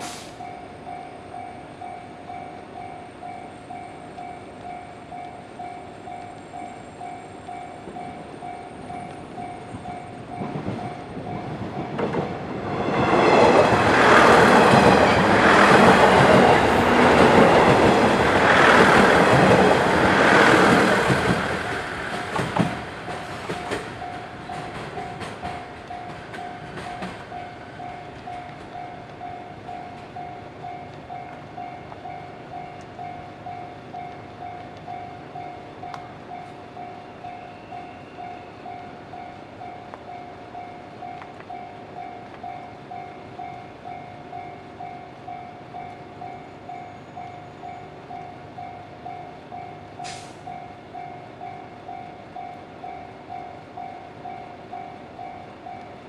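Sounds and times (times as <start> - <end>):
level-crossing warning bell: 0.4 - 56.0.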